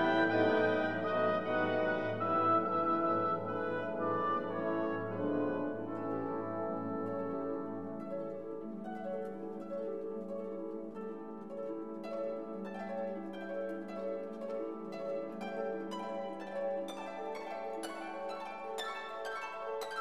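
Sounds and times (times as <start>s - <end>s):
instrumental music: 0.0s - 20.0s.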